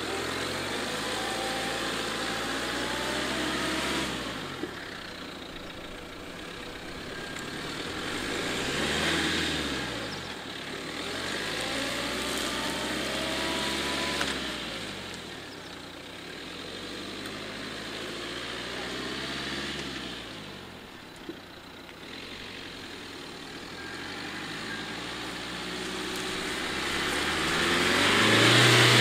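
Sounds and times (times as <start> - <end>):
suv engine revving: 0.0 - 29.0.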